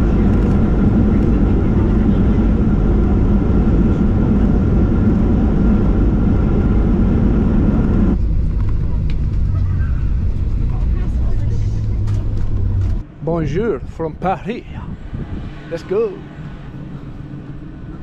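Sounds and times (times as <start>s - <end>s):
airliner cabin engine rumble: 0.0s - 18.0s
constant hum: 0.0s - 18.0s.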